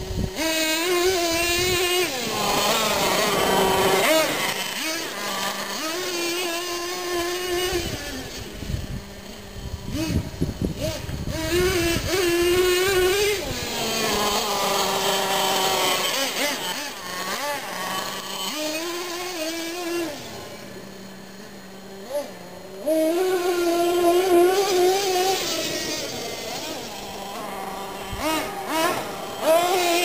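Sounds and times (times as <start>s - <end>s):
toy truck motor revving: 0.0s - 30.0s.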